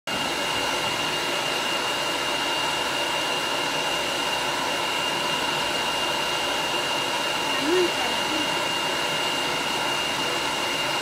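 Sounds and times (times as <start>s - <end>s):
hair dryer blowing: 0.1s - 11.0s.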